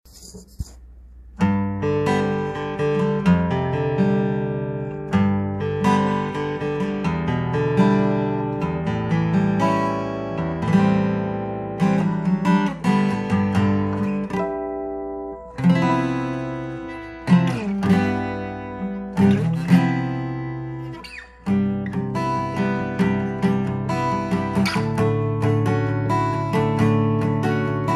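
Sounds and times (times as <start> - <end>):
acoustic guitar playing: 0.1 - 27.9.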